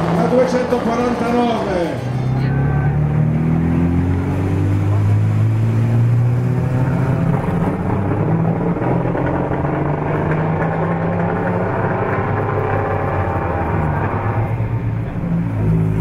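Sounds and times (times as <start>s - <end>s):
sports car engine accelerating past: 0.0s - 16.0s.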